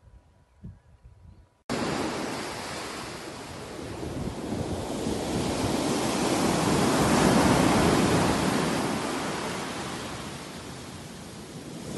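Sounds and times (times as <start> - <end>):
ocean surf breaking on beach: 1.7 - 11.9.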